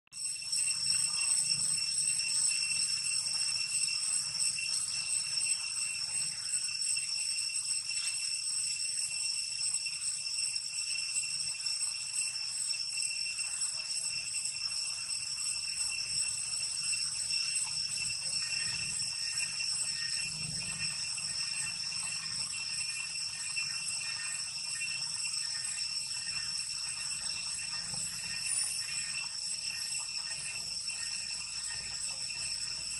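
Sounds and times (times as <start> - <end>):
high-pitched insect chorus: 0.2 - 32.9.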